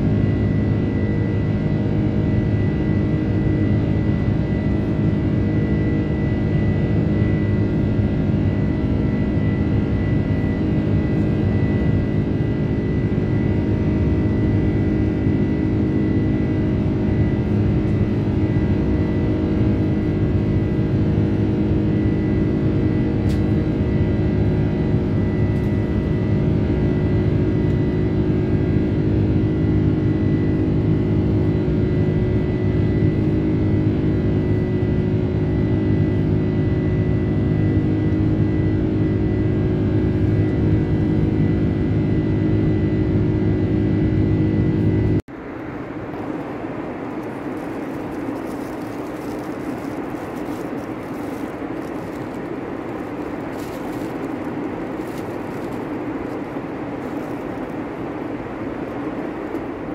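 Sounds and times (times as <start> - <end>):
high engine whine: 0.0 - 59.9
jet engines roaring in cabin: 0.0 - 59.9.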